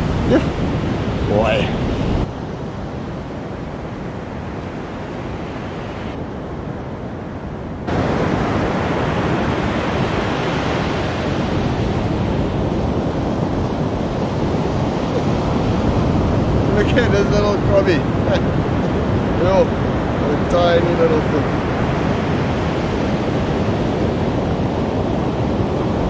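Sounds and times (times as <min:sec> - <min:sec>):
surf washing on a beach: 0:00.0 - 0:26.0
wind buffeting microphone: 0:00.0 - 0:26.0.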